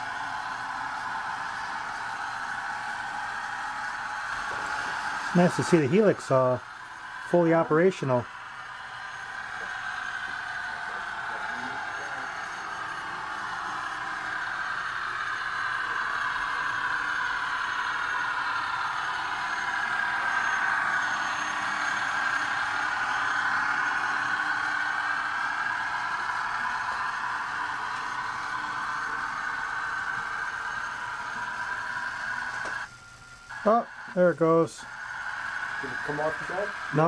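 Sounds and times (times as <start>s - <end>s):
model train running: 0.0s - 37.0s.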